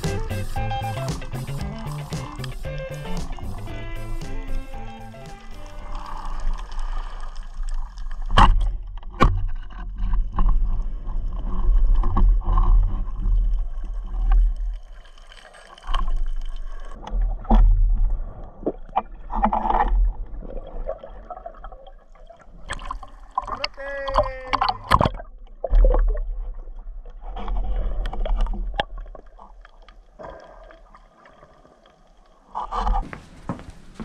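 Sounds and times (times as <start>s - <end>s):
underwater water rumbling: 0.0s - 34.0s.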